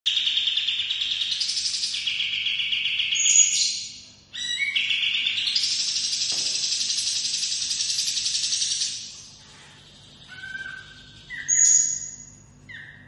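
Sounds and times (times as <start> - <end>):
songbird trilling: 0.1 - 13.0.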